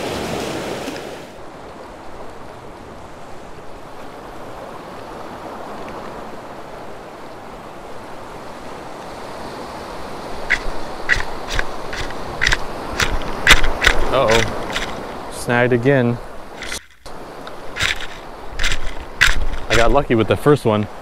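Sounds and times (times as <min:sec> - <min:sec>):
ocean surf rushing: 0:00.0 - 0:21.0
wind on microphone: 0:01.5 - 0:15.3, 0:16.2 - 0:21.0.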